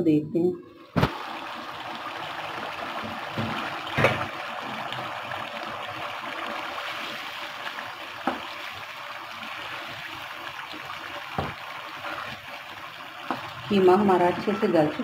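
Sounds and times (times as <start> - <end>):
meat simmering bubbling hiss: 0.6 - 14.6.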